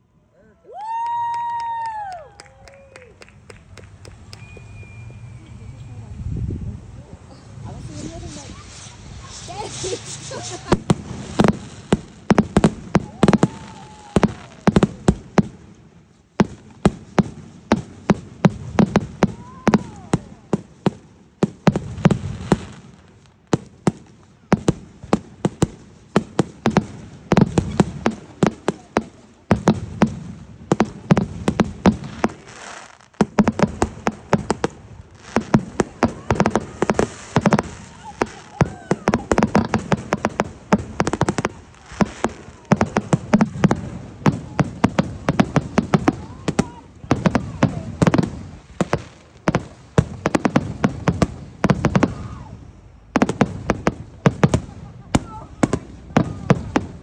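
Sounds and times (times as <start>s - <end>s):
fireworks whistles: 0.8s - 6.2s, 7.3s - 15.5s, 16.4s - 57.0s
fireworks bangs and crackling: 0.8s - 57.0s.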